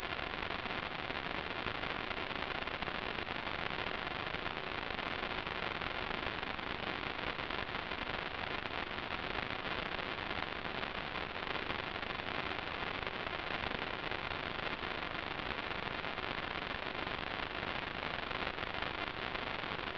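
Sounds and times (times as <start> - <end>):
steady static hiss: 0.0 - 19.9.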